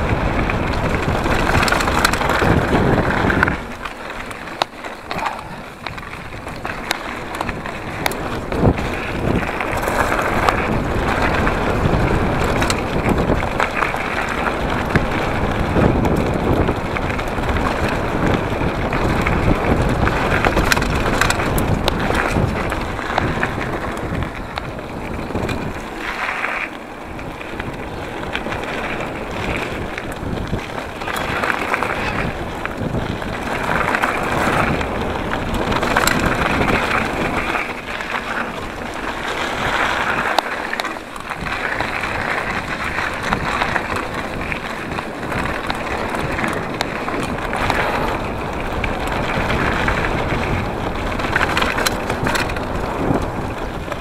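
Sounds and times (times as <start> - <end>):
bike rattling over bumps: 0.0 - 54.0
bike tyres crunching over dirt: 0.0 - 54.0
wind buffeting microphone: 0.0 - 54.0.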